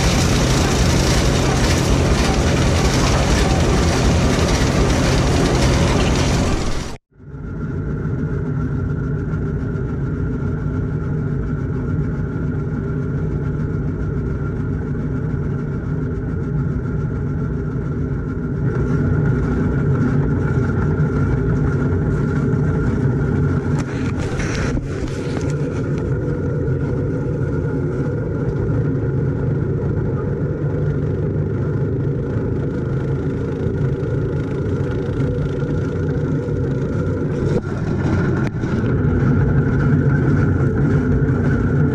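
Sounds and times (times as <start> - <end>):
tractor and corn chopper drone: 0.0 - 41.9.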